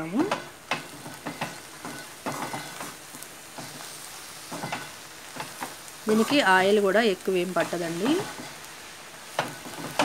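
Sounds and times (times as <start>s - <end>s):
leaves sizzling in pan: 0.0s - 10.0s.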